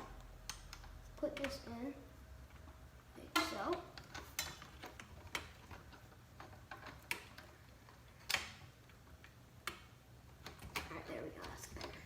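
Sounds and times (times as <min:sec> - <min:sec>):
clicks and taps of fan parts: 0:00.0 - 0:01.8, 0:02.5 - 0:12.0.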